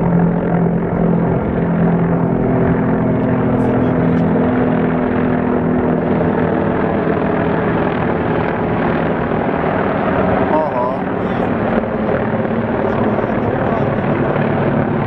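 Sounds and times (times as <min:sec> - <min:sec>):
helicopters flying over: 0:00.0 - 0:15.0.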